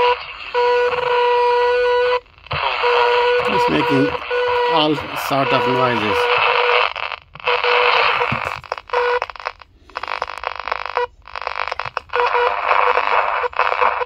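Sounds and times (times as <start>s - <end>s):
radio crackles: 0.0s - 14.0s
radio static hiss: 0.0s - 14.0s
steady radio tone: 0.0s - 14.0s.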